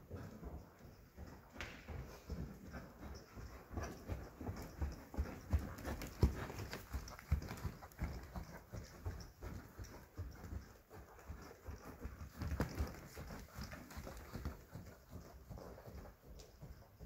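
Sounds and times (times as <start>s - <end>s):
hooves thudding on sand: 0.0s - 17.0s.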